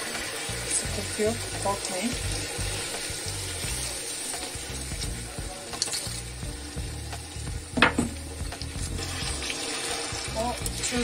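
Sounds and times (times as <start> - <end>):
spatula stirring in pan: 0.0 - 7.0, 8.3 - 11.0
sugar syrup bubbling and sizzling: 0.0 - 11.0.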